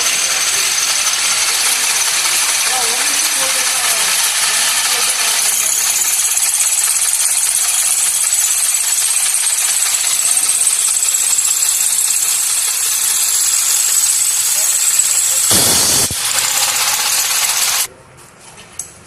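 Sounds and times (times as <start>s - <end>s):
high machine whine: 0.0s - 17.9s
machinery hissing: 0.0s - 17.9s.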